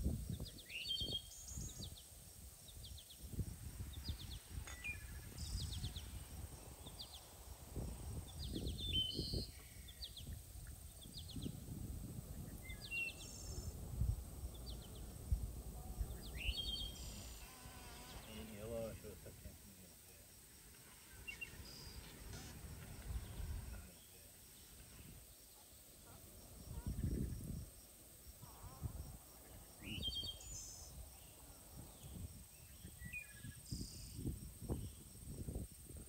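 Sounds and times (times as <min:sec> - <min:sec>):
small birds chirping: 0:00.3 - 0:27.6, 0:29.0 - 0:35.6.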